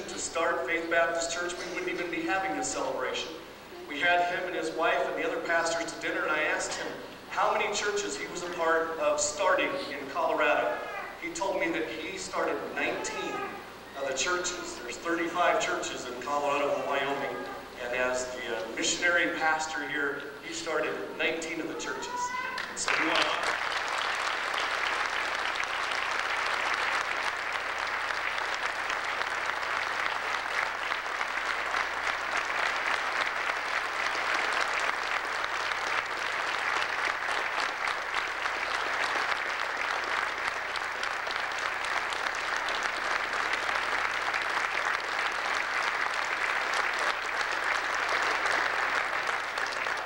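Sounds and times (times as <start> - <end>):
congregation applause: 0.0 - 50.0.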